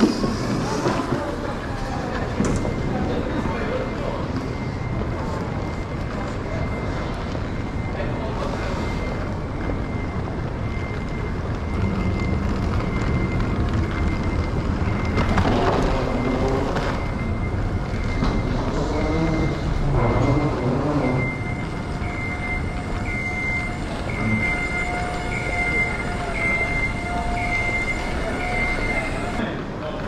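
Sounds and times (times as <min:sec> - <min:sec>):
muffled voices: 0:00.0 - 0:30.0.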